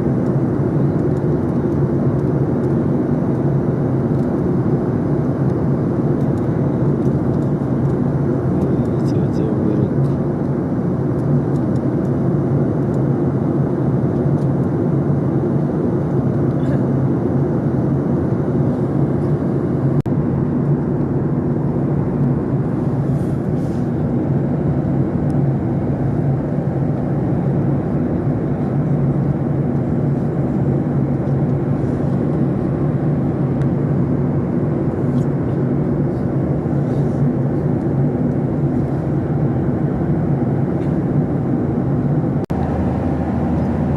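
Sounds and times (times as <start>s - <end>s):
airplane engine drone: 0.0s - 43.9s.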